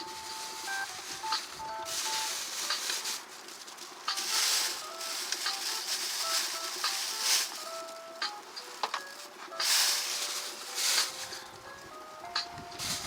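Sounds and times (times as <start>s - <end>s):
soft jazz notes: 0.0s - 13.0s.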